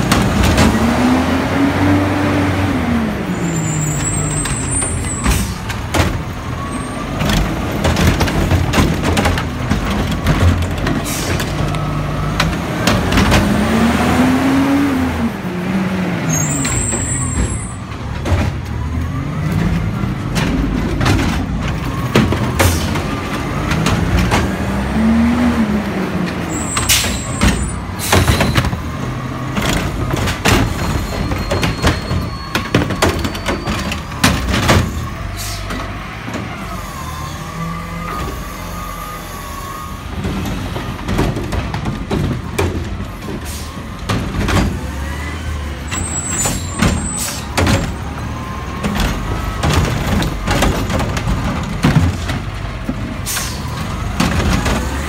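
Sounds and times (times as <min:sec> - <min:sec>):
bins clanking against truck: 0:00.0 - 0:01.2, 0:03.5 - 0:14.0, 0:16.3 - 0:38.7, 0:40.0 - 0:55.0
diesel engine revving: 0:00.0 - 0:55.0.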